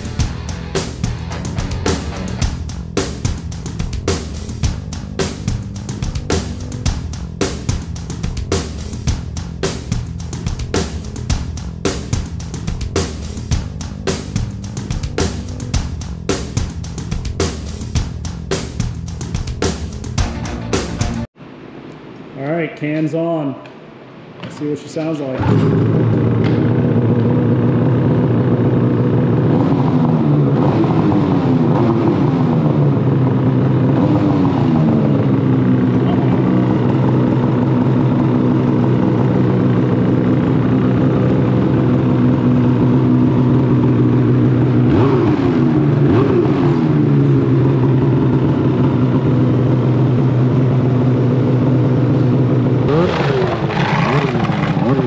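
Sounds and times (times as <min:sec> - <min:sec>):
vehicle engine idling and revving: 0:00.0 - 0:21.4, 0:25.4 - 0:55.0.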